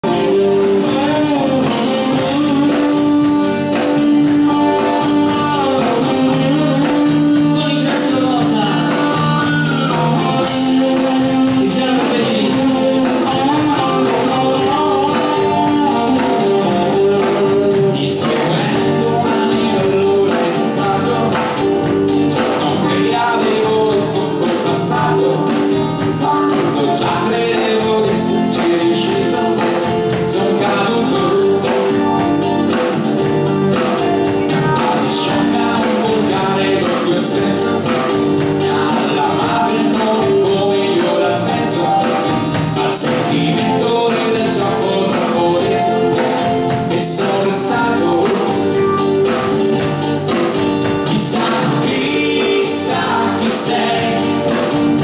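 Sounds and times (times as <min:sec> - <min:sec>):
lead vocal singing: 0:00.0 - 0:55.0
live band playing dance music: 0:00.0 - 0:55.0.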